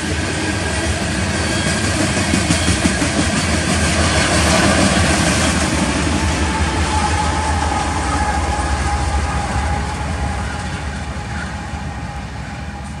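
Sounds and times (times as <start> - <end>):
diesel locomotive engine rumble: 0.0 - 13.0
train wheels on rails: 0.0 - 13.0.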